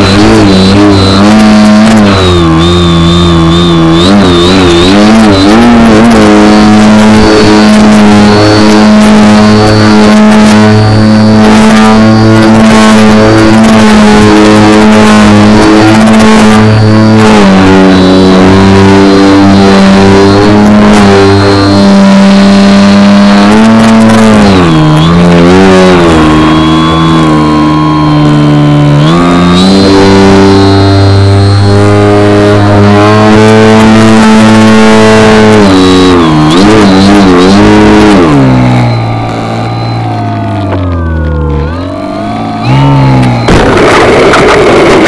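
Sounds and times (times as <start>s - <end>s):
model plane electric motor: 0.0s - 45.0s.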